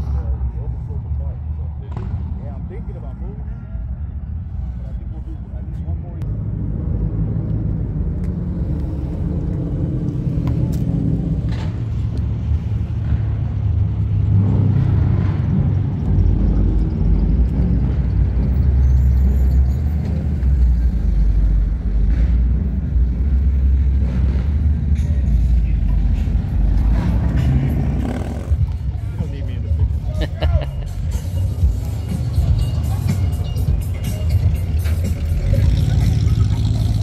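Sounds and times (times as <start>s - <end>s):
car engine rumbling: 0.0s - 37.0s.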